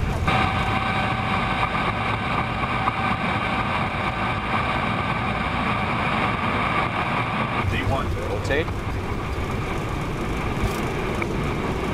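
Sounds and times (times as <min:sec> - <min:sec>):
jet engines roaring at takeoff: 0:00.0 - 0:11.9.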